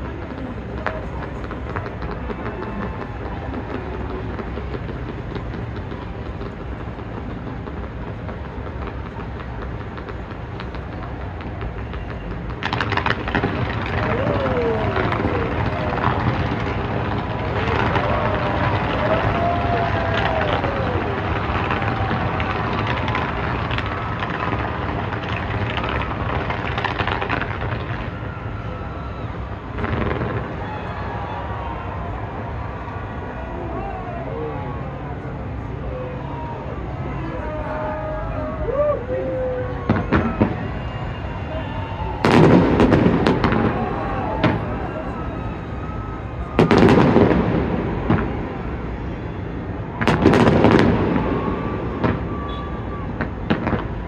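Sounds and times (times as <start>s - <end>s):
fireworks bursting: 0.0s - 34.2s, 35.2s - 54.0s
fireworks crackling: 0.0s - 54.0s.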